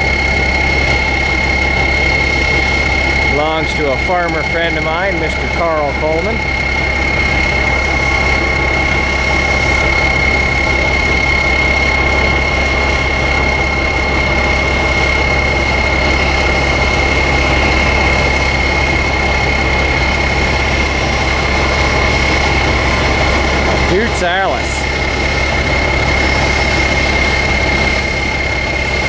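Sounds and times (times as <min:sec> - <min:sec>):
heavy diesel engine running: 0:00.0 - 0:29.0
high whine: 0:00.0 - 0:29.0.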